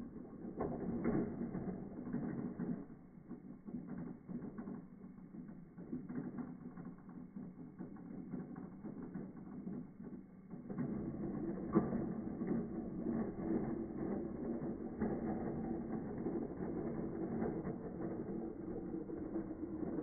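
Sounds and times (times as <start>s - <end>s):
wheels rattling on plastic track: 0.0s - 20.0s.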